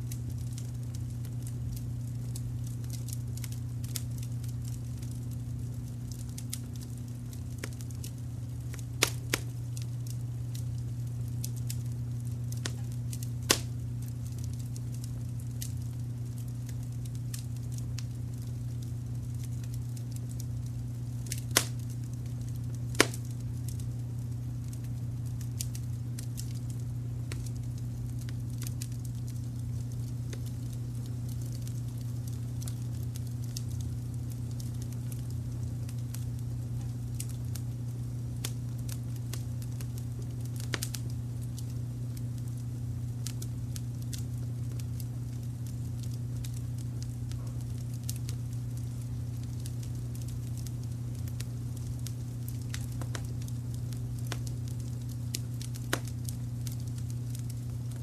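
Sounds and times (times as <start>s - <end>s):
fire pops: 0.0s - 58.0s
wood fire crackling: 0.0s - 58.0s.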